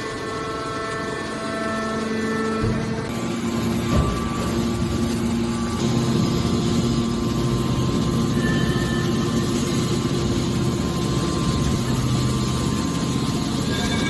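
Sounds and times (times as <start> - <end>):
baler pump motor humming: 0.0 - 14.0
rough mechanical noise: 0.0 - 14.0.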